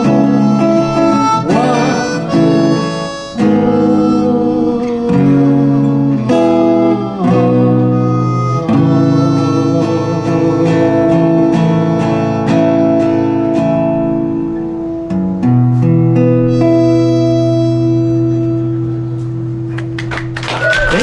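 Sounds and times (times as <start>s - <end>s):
harmonica melody: 0.0s - 20.0s
acoustic guitar strumming: 0.0s - 21.0s.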